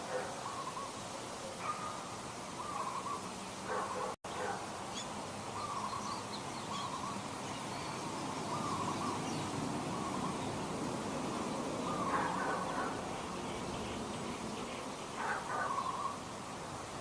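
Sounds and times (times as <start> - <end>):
background hiss: 0.0 - 17.0
birds calling: 0.0 - 17.0.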